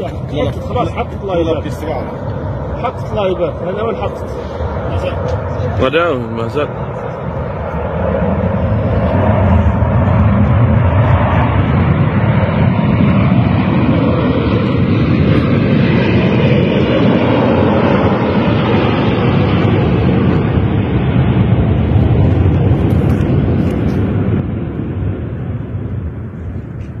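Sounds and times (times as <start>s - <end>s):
jet engine rumble: 0.0s - 27.0s.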